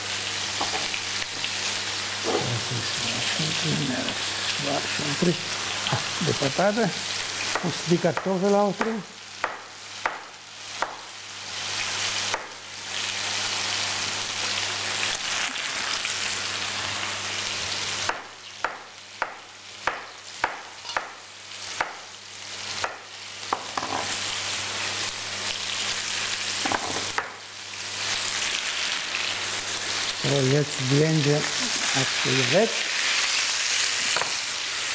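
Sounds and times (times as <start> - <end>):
potatoes sizzling in oil: 0.0 - 34.9.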